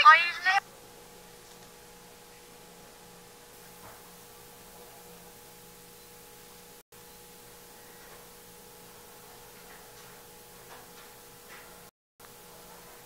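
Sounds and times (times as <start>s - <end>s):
faint hiss and hum: 0.0s - 13.0s.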